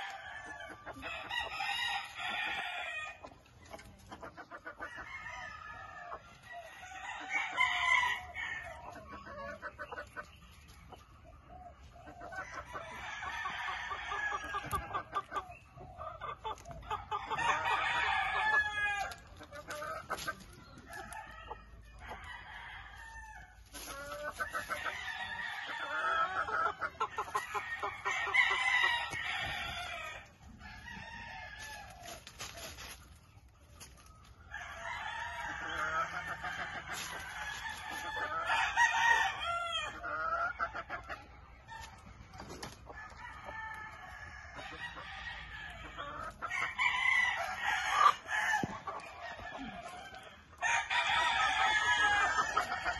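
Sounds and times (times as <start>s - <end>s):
chickens clucking: 0.0s - 52.9s
chickens crowing: 0.0s - 52.9s.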